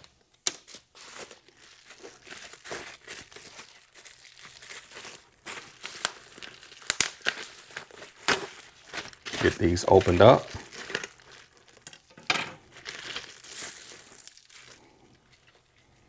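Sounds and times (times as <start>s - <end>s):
bubble wrap crackling: 0.0s - 16.0s
bubble wrap snapping: 0.0s - 16.0s.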